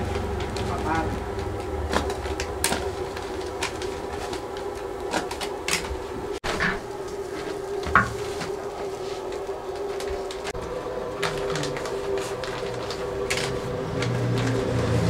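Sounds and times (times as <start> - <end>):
paper handled and folded: 0.0 - 15.0
steady hum: 0.0 - 15.0.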